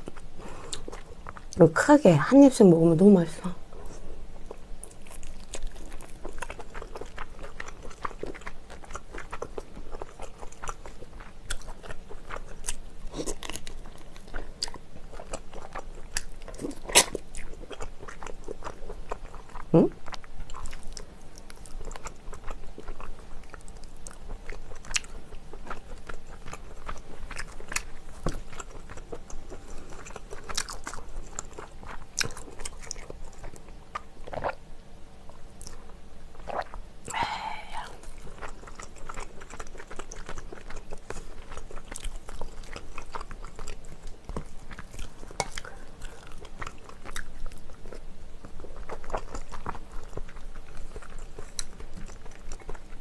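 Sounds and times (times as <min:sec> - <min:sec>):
close-miked chewing: 0:00.0 - 0:34.6, 0:35.2 - 0:53.0.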